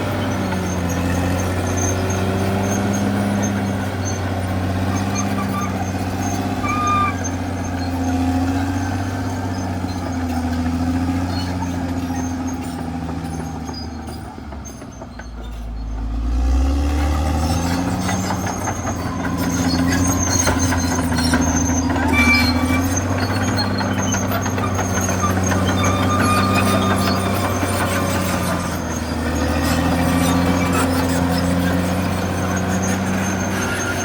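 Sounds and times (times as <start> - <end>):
bulldozer diesel engine running: 0.0 - 34.0
metallic track clatter and squeaks: 0.0 - 34.0.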